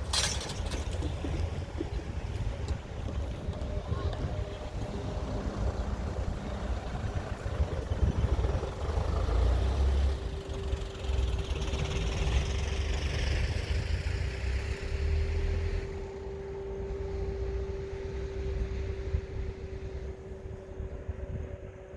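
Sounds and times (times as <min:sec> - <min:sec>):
wind buffeting microphone: 0:00.0 - 0:14.6, 0:15.9 - 0:21.9
train passing: 0:00.0 - 0:21.9.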